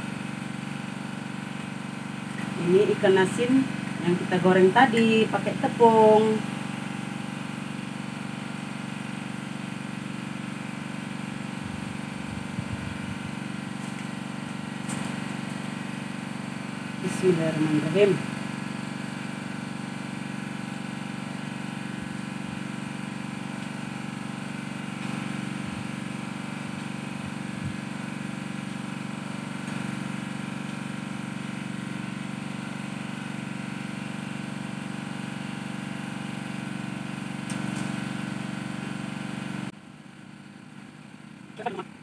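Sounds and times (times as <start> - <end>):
water pump engine running: 0.0 - 42.0.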